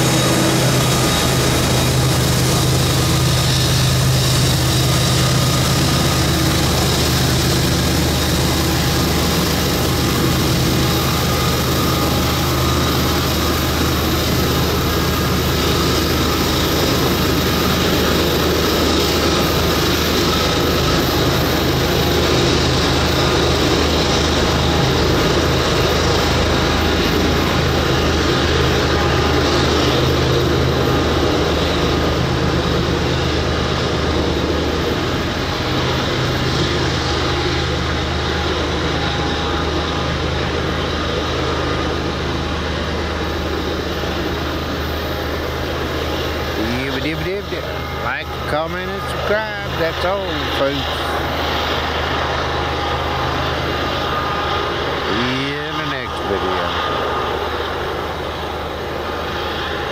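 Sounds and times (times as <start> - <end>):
locomotive engine drone: 0.0 - 59.9.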